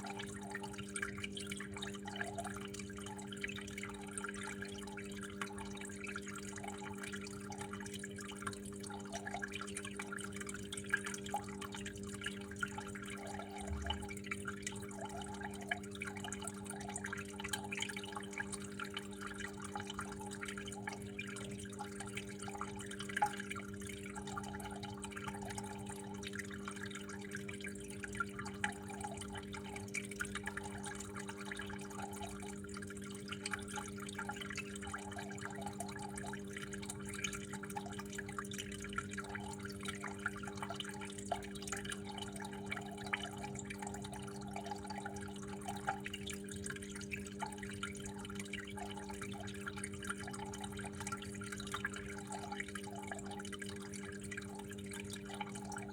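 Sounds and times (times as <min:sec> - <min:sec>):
water trickling and dripping: 0:00.0 - 0:55.9.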